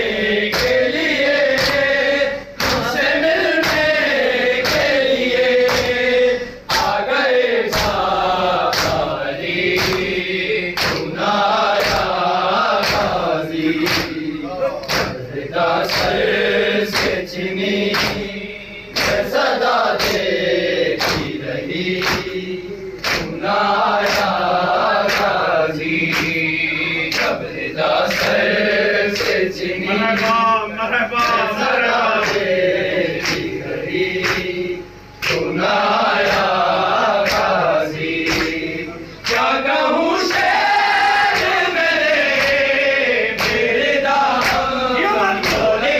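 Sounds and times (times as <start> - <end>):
men chanting in unison: 0.0 - 45.9.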